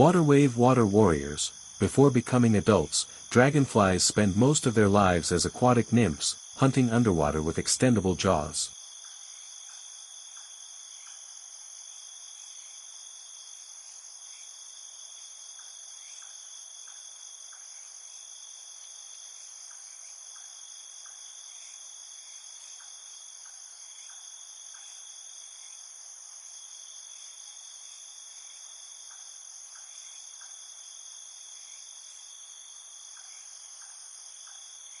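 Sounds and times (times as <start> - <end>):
insect chorus trilling: 0.0 - 35.0.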